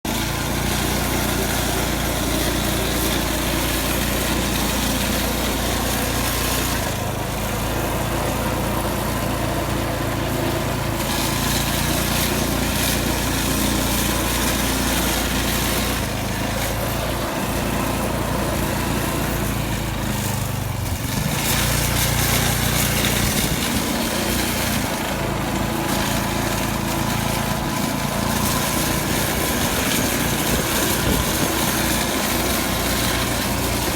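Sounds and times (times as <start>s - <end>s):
snowblower engine running: 0.0s - 33.9s.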